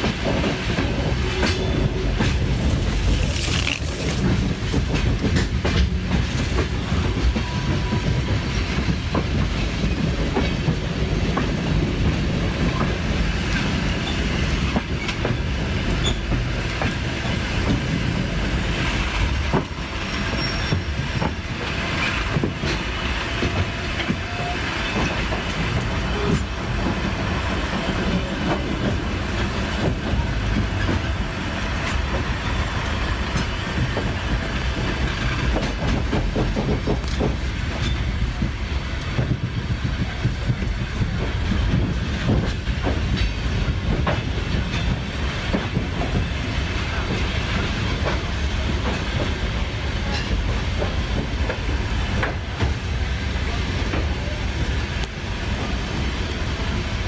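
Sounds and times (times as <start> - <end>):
wheels clicking over rail joints: 0.0 - 55.8
train wheels rumbling on rail: 0.0 - 57.0.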